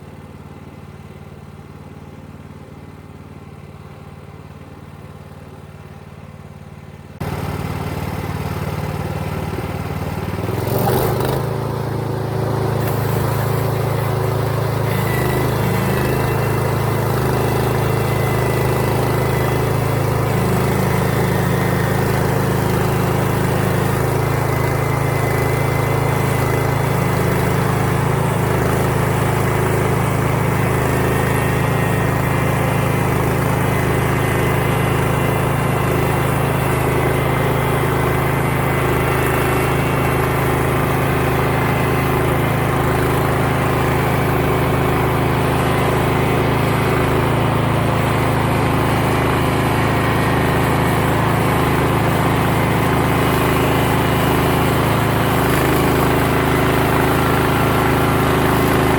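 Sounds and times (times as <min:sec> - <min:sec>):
small engine running steadily: 0:00.0 - 0:58.9.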